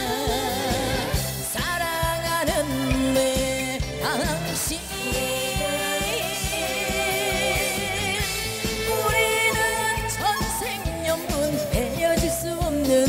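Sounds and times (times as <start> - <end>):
instrumental accompaniment with beat: 0.0 - 13.0
woman singing into a microphone: 0.0 - 13.0.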